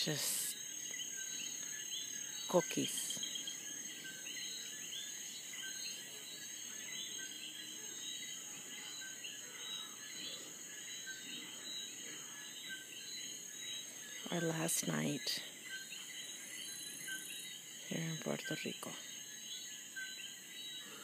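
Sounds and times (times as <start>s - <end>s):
frogs calling: 0.0s - 21.0s.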